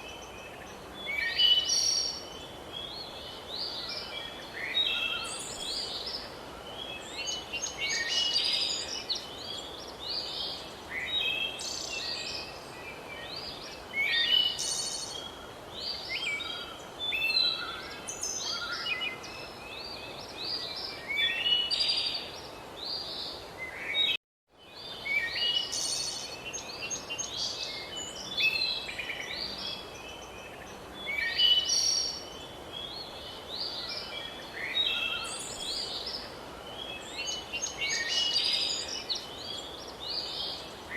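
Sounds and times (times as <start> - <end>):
birds chirping and trilling: 0.0 - 40.9
steady background hiss: 0.0 - 40.9.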